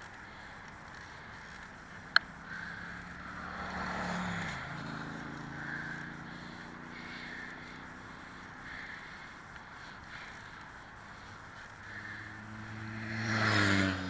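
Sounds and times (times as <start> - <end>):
bicycle rolling and wind noise: 0.0 - 14.0
motor vehicle passing: 0.0 - 14.0.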